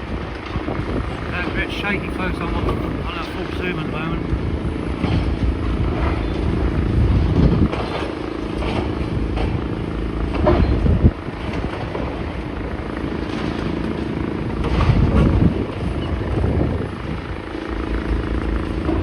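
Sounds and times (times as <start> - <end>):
diesel engine running: 0.0 - 19.0
wind rumble on microphone: 0.0 - 19.0.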